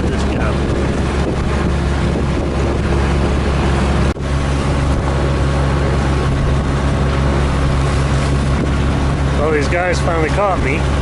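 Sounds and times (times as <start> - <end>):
boat engine droning: 0.0 - 11.0
wind and water hiss: 0.0 - 11.0.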